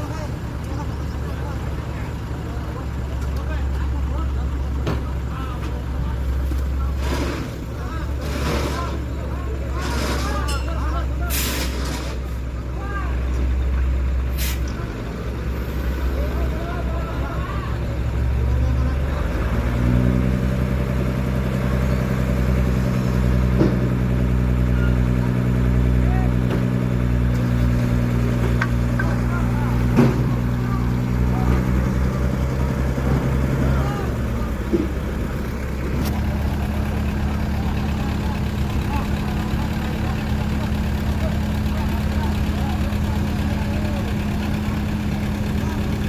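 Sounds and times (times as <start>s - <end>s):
truck engine running: 0.0s - 46.0s.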